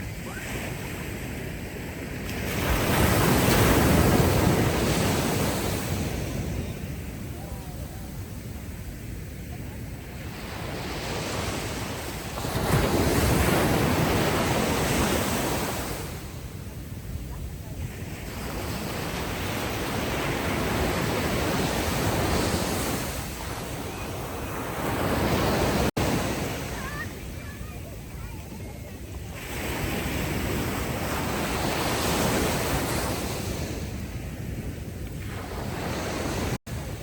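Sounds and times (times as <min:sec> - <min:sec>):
ocean waves breaking on beach: 0:00.0 - 0:37.0.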